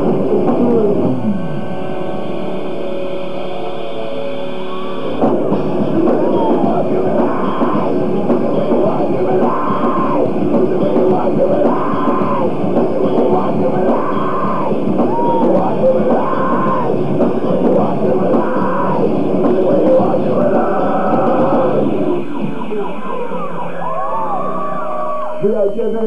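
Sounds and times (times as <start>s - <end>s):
bass guitar: 0.0s - 25.5s
electric guitars: 0.0s - 25.5s
drums: 0.0s - 26.0s.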